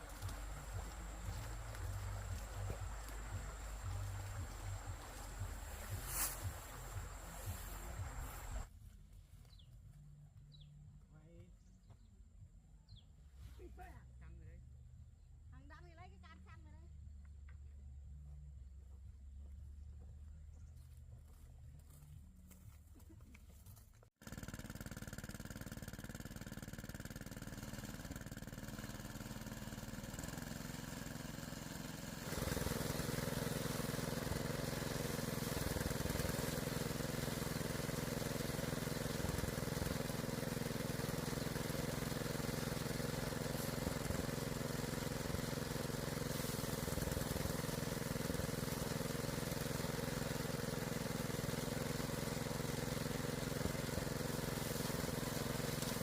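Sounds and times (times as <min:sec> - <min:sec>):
engine running: 0:00.0 - 0:12.0, 0:16.9 - 0:56.0.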